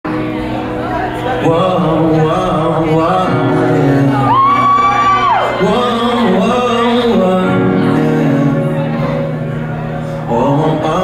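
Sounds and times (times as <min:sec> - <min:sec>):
person singing a song: 0:01.2 - 0:09.5, 0:10.2 - 0:11.0.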